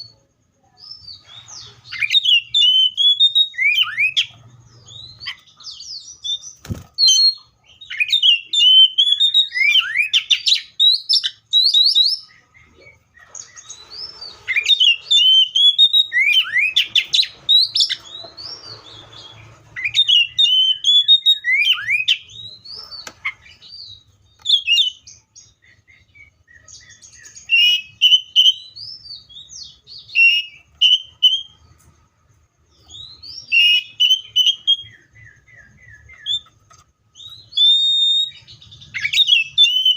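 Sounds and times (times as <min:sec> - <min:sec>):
bird singing whistled notes: 0:00.0 - 0:31.8, 0:32.6 - 0:39.9.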